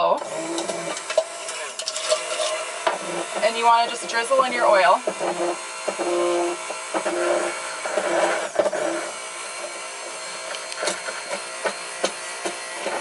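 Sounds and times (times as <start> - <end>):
immersion blender whirring: 0.0 - 13.0.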